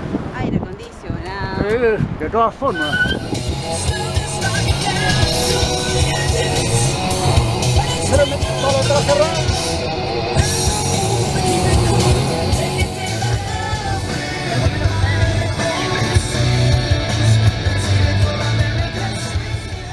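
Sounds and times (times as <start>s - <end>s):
rock song with singing: 2.7s - 19.9s.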